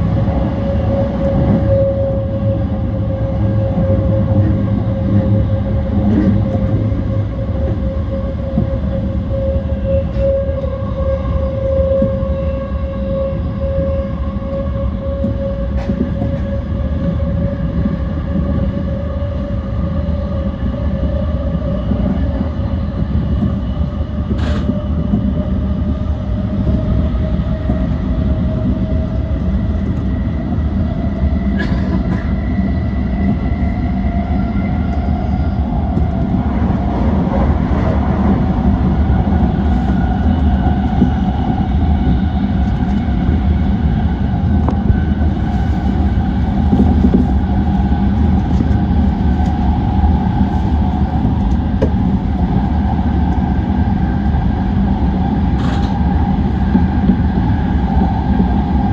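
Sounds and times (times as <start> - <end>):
train wheel and rail rumble: 0.0 - 58.9.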